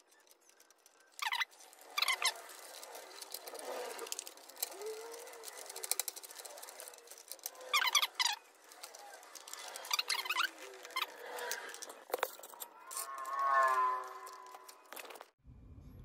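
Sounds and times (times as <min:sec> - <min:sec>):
silicone tubing squeaking: 0:00.0 - 0:15.4.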